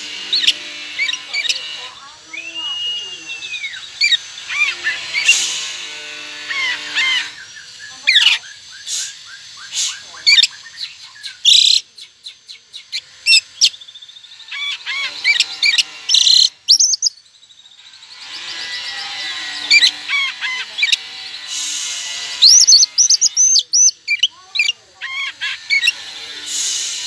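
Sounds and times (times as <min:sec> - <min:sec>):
magpie-robin singing: 0:00.3 - 0:05.4, 0:06.5 - 0:21.4, 0:22.3 - 0:26.0.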